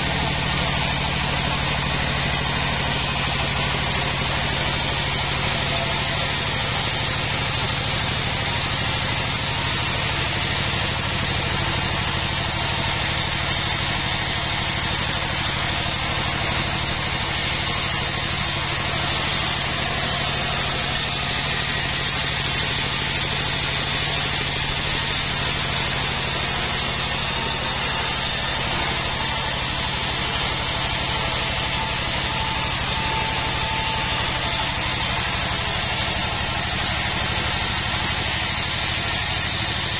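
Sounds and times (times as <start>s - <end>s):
band saw ripping a board: 0.0s - 39.9s.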